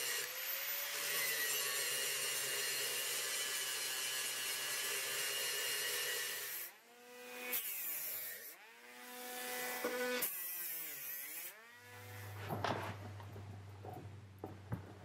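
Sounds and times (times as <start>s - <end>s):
small cordless grinder bursts: 0.0s - 12.4s
angle grinder grinding steel: 0.0s - 12.6s.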